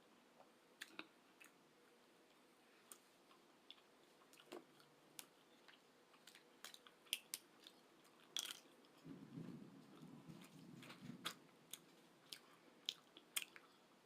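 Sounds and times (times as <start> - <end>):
close-miked chewing: 2.2 - 14.0.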